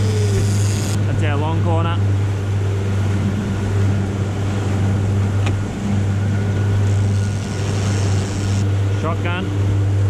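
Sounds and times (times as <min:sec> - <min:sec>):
outboard motor humming: 0:00.0 - 0:10.0
water churning: 0:00.0 - 0:10.0.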